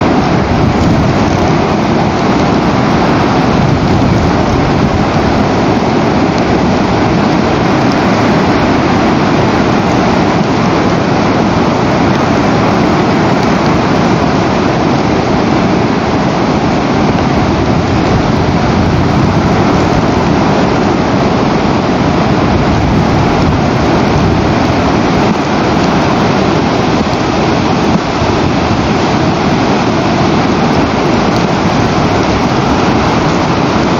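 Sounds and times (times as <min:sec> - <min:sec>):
wind rushing on microphone: 0:00.0 - 0:33.9.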